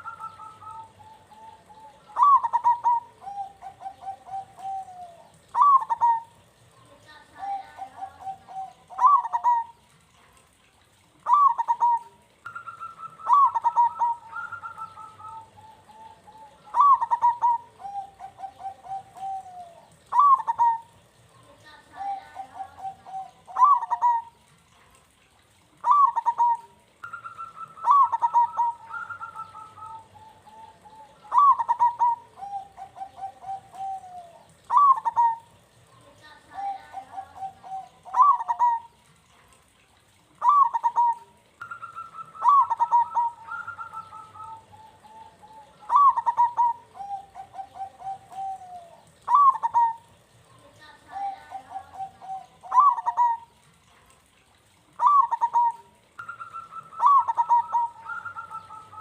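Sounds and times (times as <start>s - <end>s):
dove cooing song: 0.0s - 39.3s, 39.9s - 59.0s.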